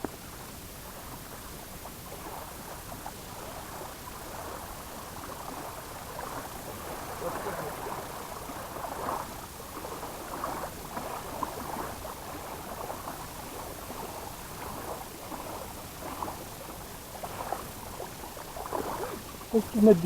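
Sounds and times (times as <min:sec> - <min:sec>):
small waves lapping on shore: 0:00.0 - 0:20.0.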